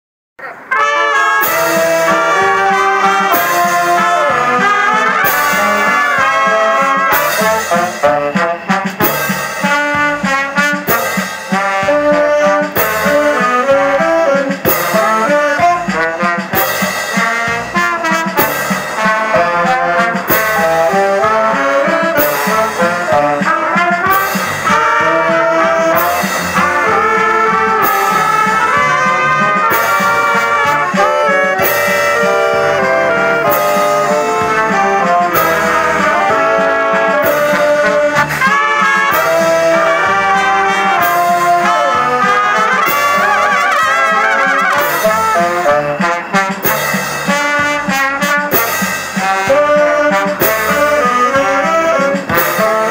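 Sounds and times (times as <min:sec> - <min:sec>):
brass band playing: 0:00.4 - 0:52.9
steady beat: 0:01.4 - 0:52.9.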